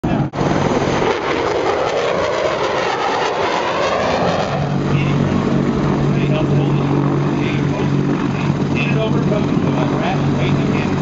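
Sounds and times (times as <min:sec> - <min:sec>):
jet aircraft flying past: 0:00.0 - 0:11.0.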